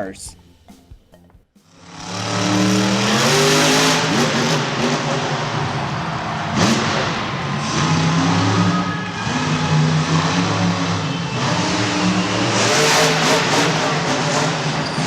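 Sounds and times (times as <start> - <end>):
monster truck engine revving: 1.7 - 15.0.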